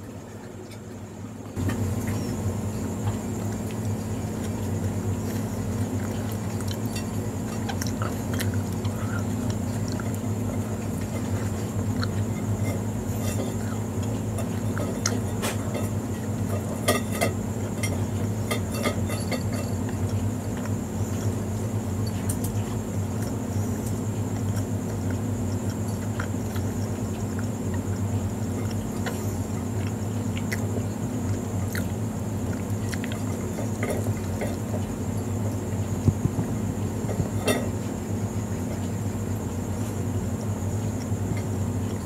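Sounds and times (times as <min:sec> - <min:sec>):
steady low hum: 0:00.0 - 0:42.0
person chewing: 0:02.9 - 0:16.9, 0:17.8 - 0:37.9.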